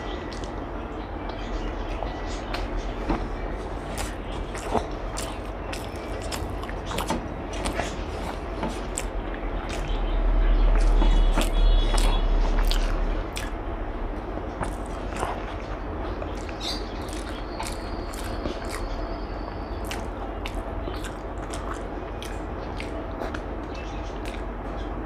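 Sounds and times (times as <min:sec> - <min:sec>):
person chewing food: 0:00.0 - 0:00.6, 0:01.3 - 0:10.1, 0:10.7 - 0:13.6, 0:14.5 - 0:24.9.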